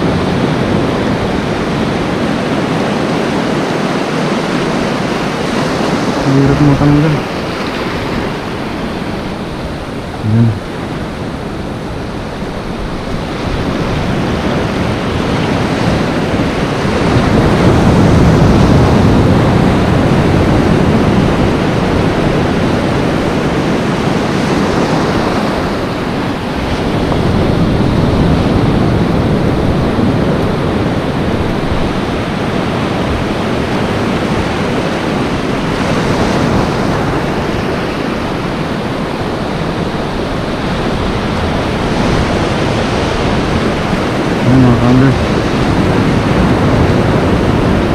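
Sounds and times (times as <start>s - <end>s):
surf breaking over reef: 0.0s - 47.9s
wind rumbling on microphone: 0.0s - 47.9s.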